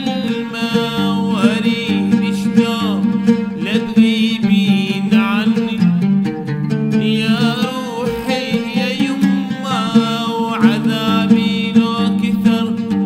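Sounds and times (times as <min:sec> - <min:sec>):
oud being plucked: 0:00.0 - 0:13.0.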